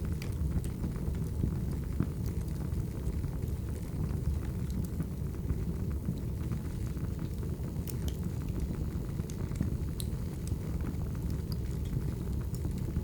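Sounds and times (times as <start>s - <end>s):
fire rumbling: 0.0s - 13.0s
logs crackling and popping: 0.0s - 13.0s.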